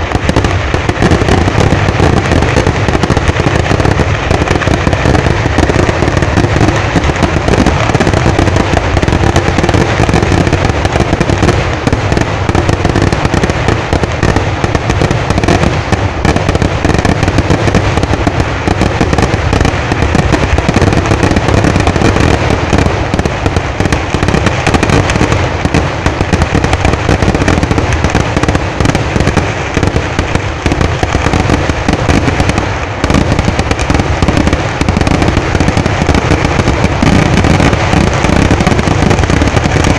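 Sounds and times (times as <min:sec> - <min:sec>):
fireworks exploding rapidly: 0:00.0 - 0:39.9.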